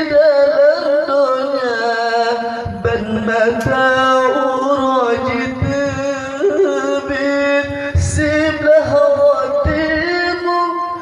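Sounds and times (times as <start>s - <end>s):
man singing long ornamented notes: 0.0s - 11.0s.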